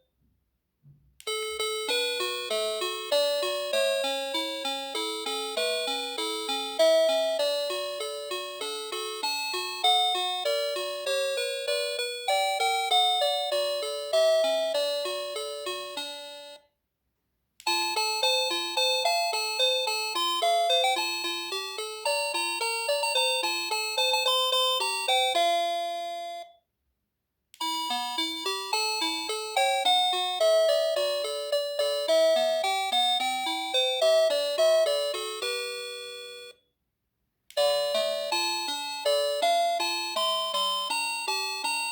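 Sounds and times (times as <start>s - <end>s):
electronic doorbell chime melody: 1.2s - 16.7s, 17.7s - 26.6s, 27.6s - 36.6s, 37.6s - 41.9s.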